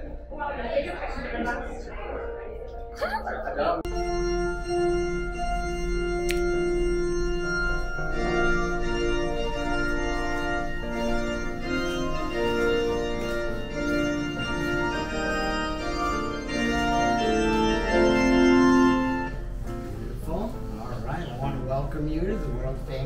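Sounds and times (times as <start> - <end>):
organ playing sustained chords: 0.0 - 23.0.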